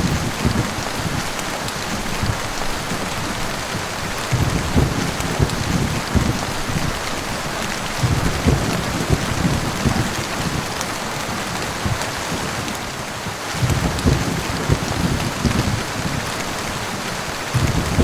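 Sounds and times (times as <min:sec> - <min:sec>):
heavy rain falling: 0:00.0 - 0:18.0
low thunder rumbles: 0:00.0 - 0:18.0.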